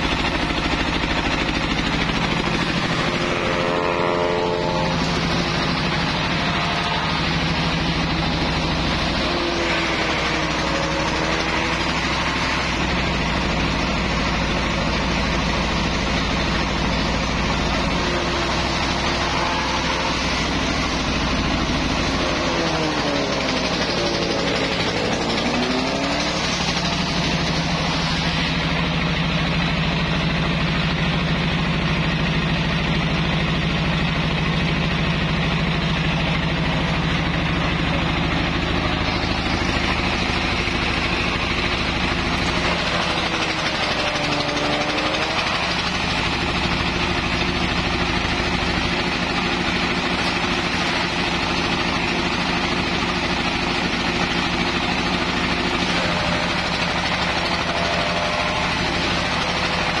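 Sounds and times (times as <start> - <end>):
grass chopper shredding grass: 0.0 - 60.0
stationary engine running: 0.0 - 60.0.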